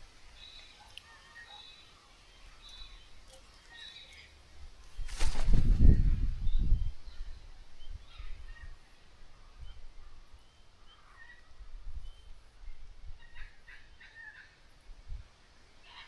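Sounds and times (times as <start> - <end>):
birds chirping: 0.3 - 14.7.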